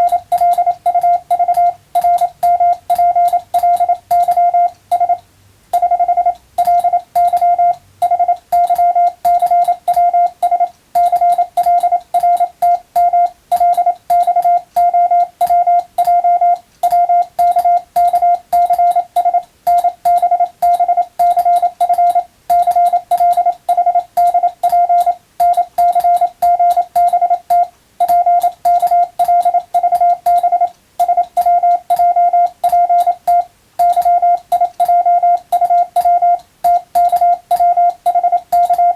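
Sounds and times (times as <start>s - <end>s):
morse code tone: 0.0s - 38.9s.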